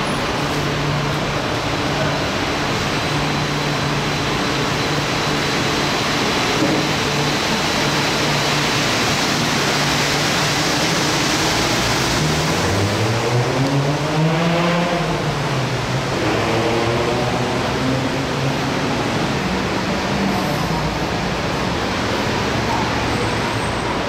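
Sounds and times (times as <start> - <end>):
metro train rushing: 0.0 - 24.0.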